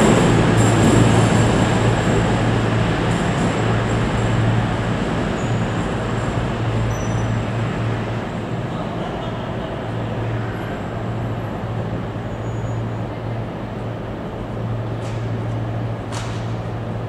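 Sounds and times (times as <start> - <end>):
diesel train engines humming: 0.0 - 17.0
train noise: 0.0 - 17.0.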